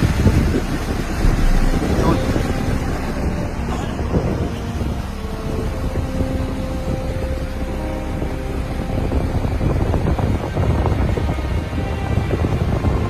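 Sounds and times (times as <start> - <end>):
motor rumbling: 0.0 - 13.0
wind buffeting microphone: 0.0 - 13.0.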